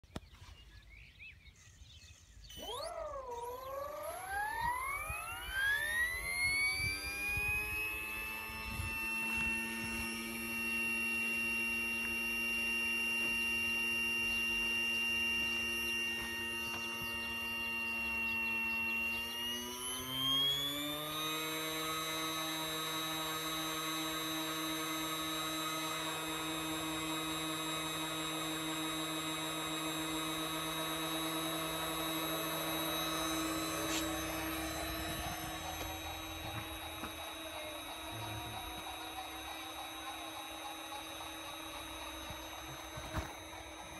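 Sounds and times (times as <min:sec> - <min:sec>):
rc helicopter motor whining: 0:01.8 - 0:43.9.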